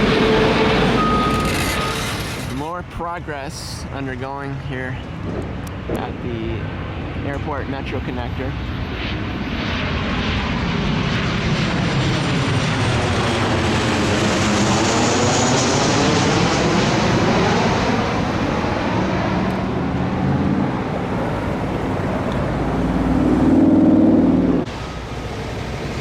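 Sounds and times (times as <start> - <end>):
airplane flying low overhead: 0.0 - 26.0.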